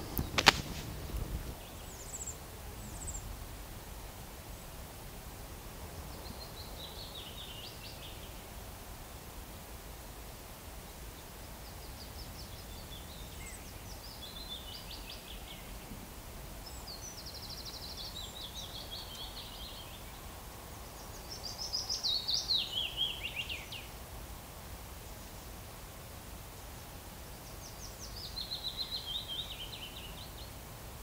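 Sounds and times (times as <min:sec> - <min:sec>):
low outdoor background hum: 0:00.0 - 0:31.0.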